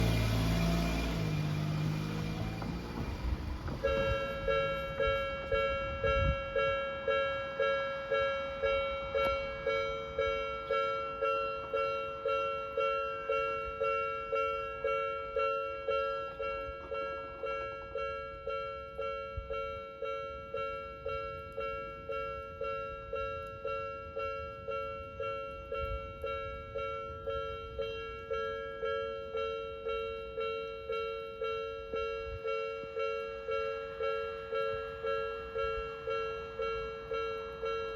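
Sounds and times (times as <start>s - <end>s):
level crossing warning bell ringing: 0.0s - 37.9s.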